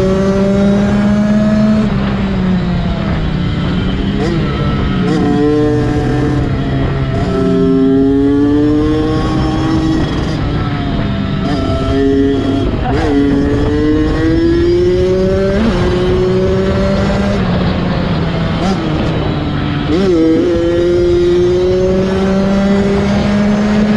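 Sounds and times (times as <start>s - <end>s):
dirt bike engines accelerating: 0.0s - 23.9s.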